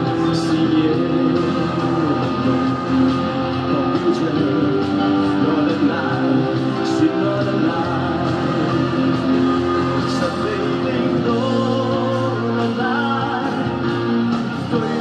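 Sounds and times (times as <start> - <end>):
loud backing music: 0.0 - 15.0
man singing live: 0.0 - 15.0.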